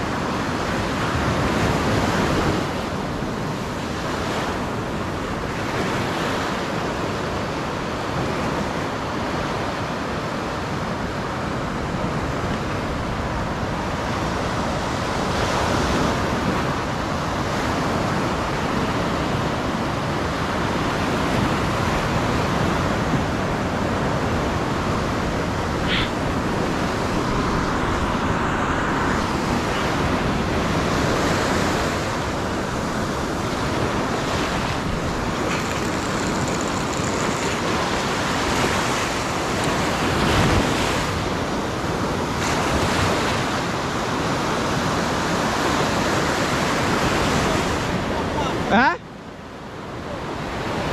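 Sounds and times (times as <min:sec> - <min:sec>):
sea surf washing on shore: 0:00.0 - 0:50.9
wind: 0:00.0 - 0:50.9.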